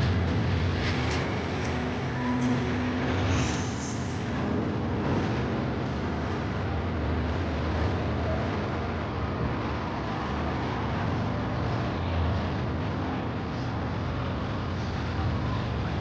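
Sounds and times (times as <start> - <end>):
steady road traffic: 0.0 - 16.0.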